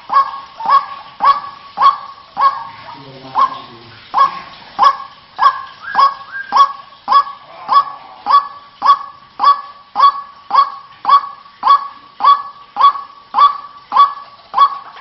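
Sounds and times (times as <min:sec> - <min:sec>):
waterhen calling harshly: 0:00.0 - 0:15.0.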